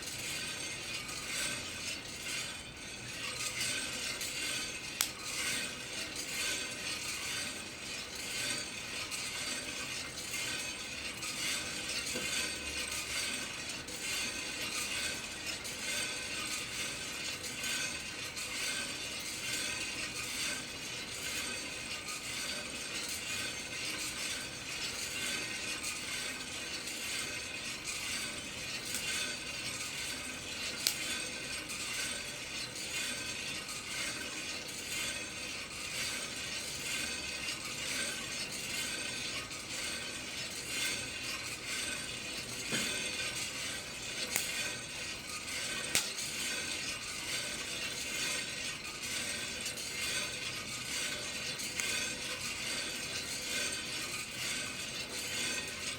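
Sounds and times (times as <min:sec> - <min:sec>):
coffee beans rattling in roaster drum: 0:00.0 - 0:55.9.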